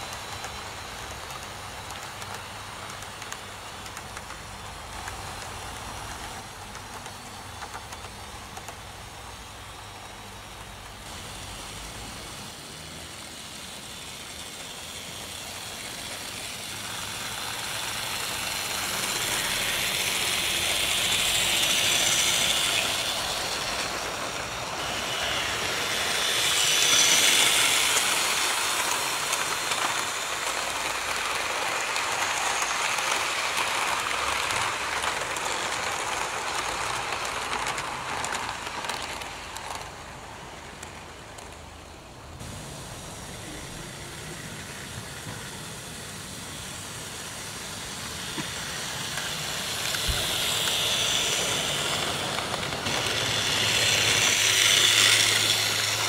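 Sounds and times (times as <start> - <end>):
model train wheels clattering: 0.0 - 56.0.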